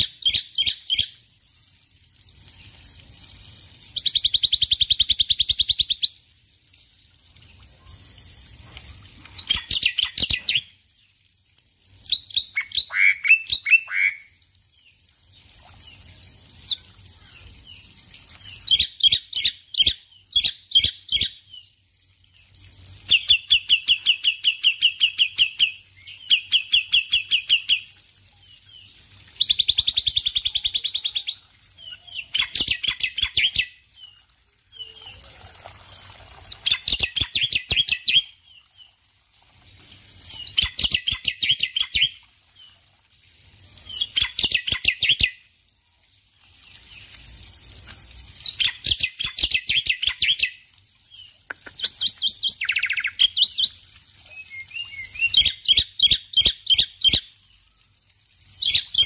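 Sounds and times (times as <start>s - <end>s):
faint running water: 0.0s - 59.0s.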